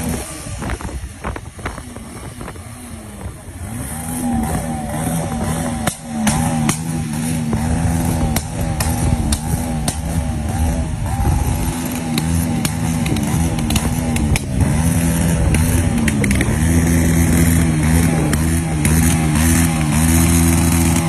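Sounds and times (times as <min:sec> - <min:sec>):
motorcycle engine running unevenly: 0:00.0 - 0:21.0
sharp engine clicks: 0:03.8 - 0:21.0.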